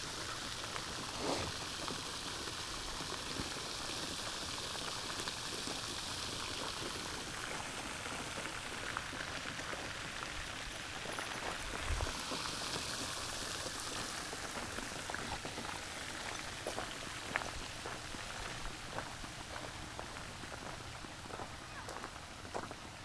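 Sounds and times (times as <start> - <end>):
small waterfall over rocks: 0.0 - 23.0.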